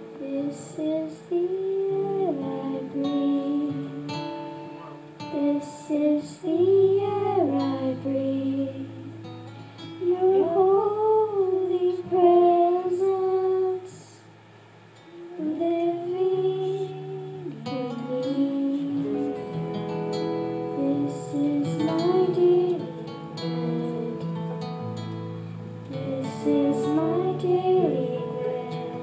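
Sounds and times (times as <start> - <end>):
woman singing: 0.0 - 4.4, 5.2 - 9.1, 10.0 - 14.3, 15.1 - 19.6, 20.6 - 24.9, 25.9 - 29.0
guitar accompaniment: 0.0 - 29.0.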